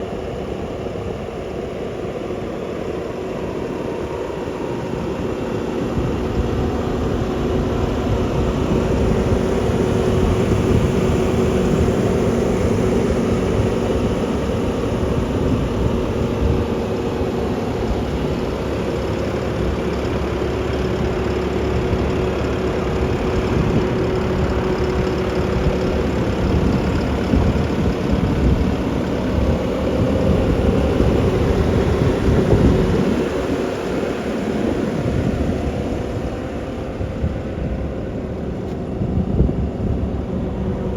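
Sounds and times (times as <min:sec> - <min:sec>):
diesel engine rumbling: 0:00.0 - 0:40.9.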